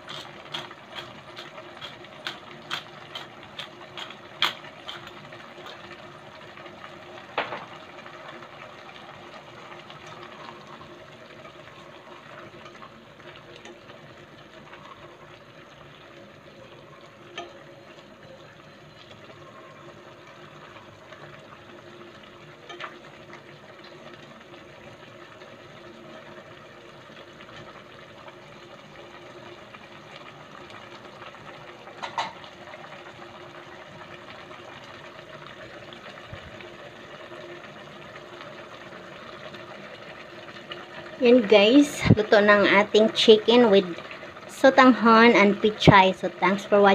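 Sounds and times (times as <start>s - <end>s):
faint steady hum: 0.0s - 46.9s
soup bubbling at a boil: 0.0s - 46.9s.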